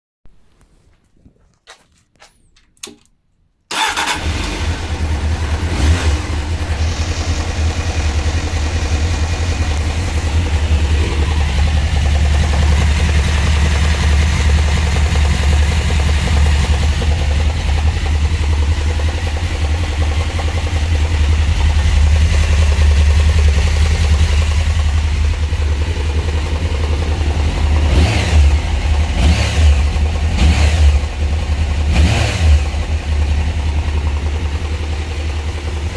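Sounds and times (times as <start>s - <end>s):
engine revving: 3.7s - 35.9s
motorcycle engine idling: 3.7s - 35.9s.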